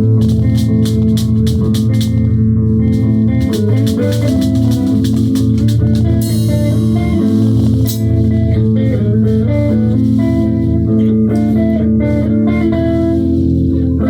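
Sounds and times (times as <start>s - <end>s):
bass guitar: 0.0s - 14.0s
drums: 0.0s - 14.0s
guitar: 0.0s - 14.0s.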